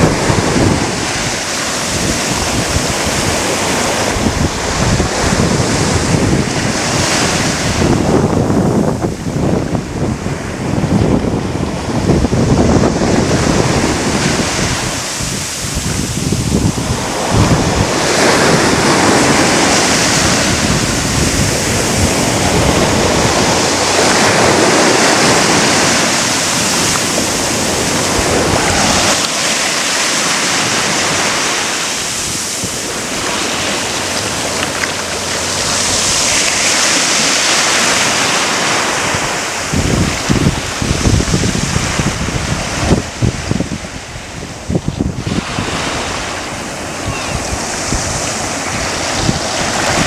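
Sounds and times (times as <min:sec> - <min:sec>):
waves breaking on a beach: 0:00.0 - 0:50.0
wind buffeting microphone: 0:00.0 - 0:50.0.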